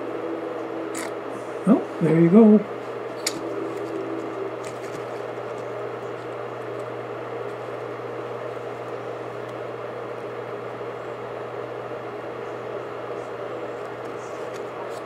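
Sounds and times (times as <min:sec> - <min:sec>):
low motor hum: 0:00.0 - 0:14.8
blower fan air rush: 0:00.0 - 0:15.0.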